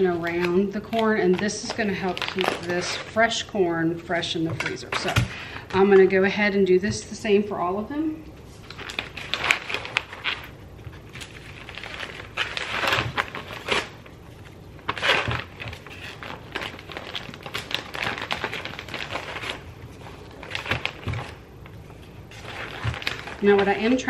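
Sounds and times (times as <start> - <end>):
plastic bags crinkling: 0.0 - 6.3, 8.4 - 24.0.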